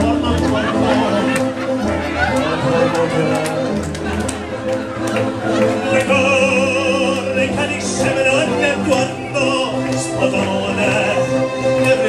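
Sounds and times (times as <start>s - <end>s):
man singing operatically: 0.0s - 4.0s, 5.7s - 12.0s
backing music: 0.0s - 12.0s.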